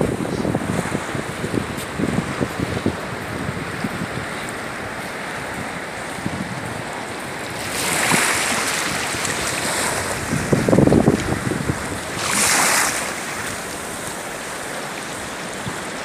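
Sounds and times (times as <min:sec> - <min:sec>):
small waves washing onto sand: 0:00.0 - 0:16.0
wind: 0:00.0 - 0:16.0.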